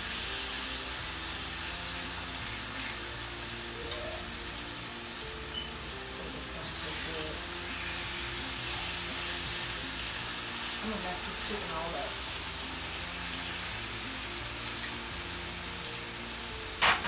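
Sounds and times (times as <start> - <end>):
chicken sizzling on griddle: 0.0 - 17.0.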